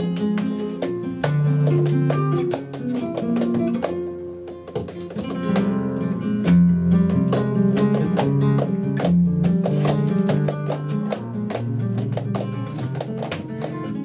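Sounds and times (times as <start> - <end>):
flamenco guitar playing: 0.0 - 14.0.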